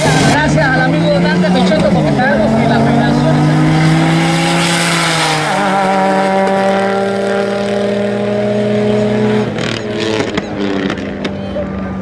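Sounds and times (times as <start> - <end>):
car engines at full throttle: 0.0 - 12.0.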